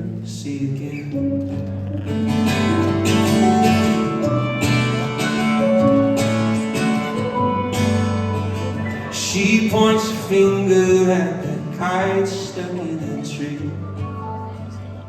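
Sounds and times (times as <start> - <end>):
acoustic pop-rock music: 0.0 - 15.0.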